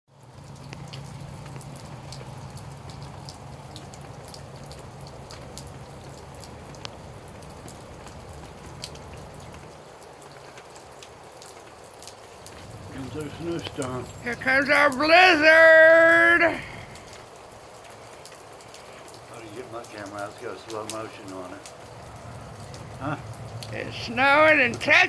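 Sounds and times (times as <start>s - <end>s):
wintry precipitation ticking: 0.2s - 25.0s.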